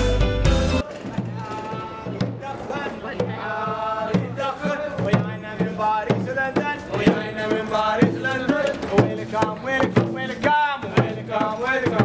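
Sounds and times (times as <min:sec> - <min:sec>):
barrel drum beating: 0:00.5 - 0:12.0
men chanting in unison: 0:00.9 - 0:12.0.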